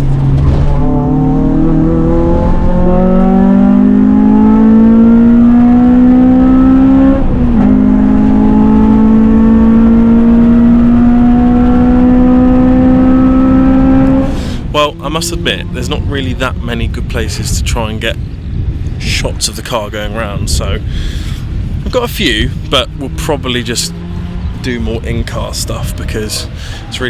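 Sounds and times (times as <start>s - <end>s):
car engine accelerating: 0.0s - 17.1s, 18.0s - 27.0s.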